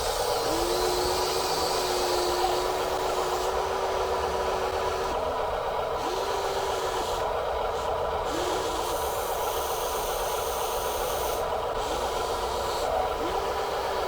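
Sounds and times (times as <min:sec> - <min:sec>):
toy truck motors whirring: 0:00.0 - 0:14.0.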